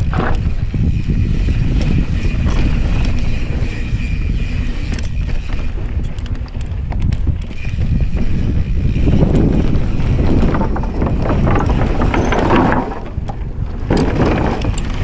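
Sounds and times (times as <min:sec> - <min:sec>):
bike rattling: 0:00.0 - 0:15.0
bike tyres rolling over rocky dirt: 0:00.0 - 0:15.0
wind buffeting microphone: 0:00.0 - 0:15.0.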